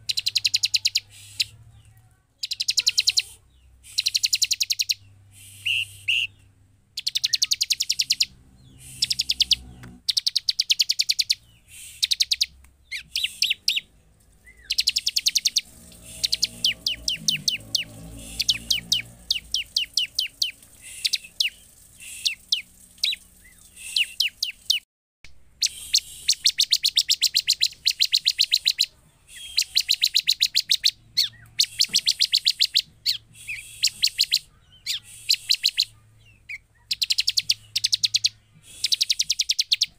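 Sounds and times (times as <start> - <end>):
bird singing fast high chatter: 0.0 - 1.8, 2.4 - 24.8, 25.6 - 39.9.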